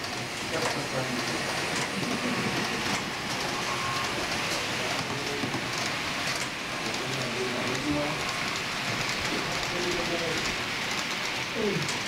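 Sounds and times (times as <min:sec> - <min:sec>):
model train wheels rushing: 0:00.0 - 0:12.0.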